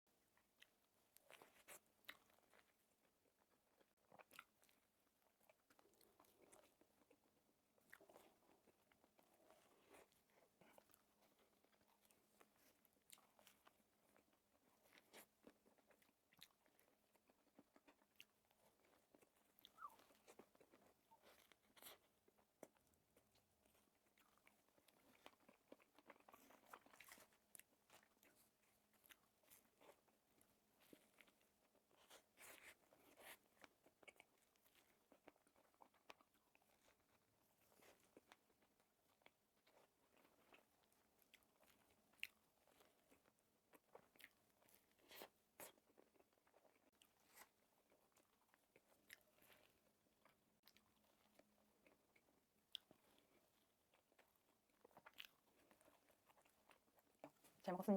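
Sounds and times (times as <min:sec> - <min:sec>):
biting and chewing soft food: 0:00.1 - 0:57.9.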